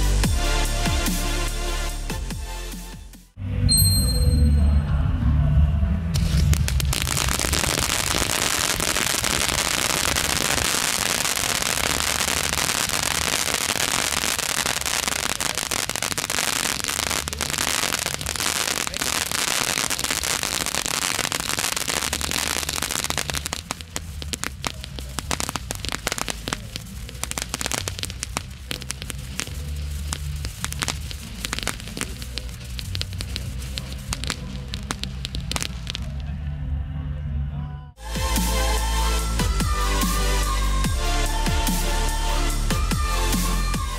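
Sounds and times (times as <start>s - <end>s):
firework fountain crackling: 6.2s - 36.3s, 38.0s - 43.9s.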